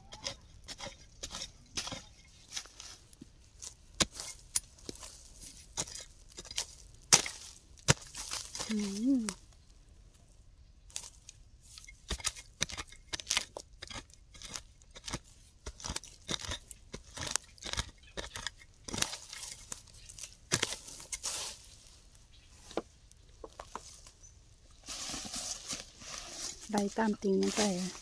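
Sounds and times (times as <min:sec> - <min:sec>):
digging tool crunching into soil: 0:00.1 - 0:09.4, 0:10.9 - 0:21.8, 0:24.8 - 0:28.0.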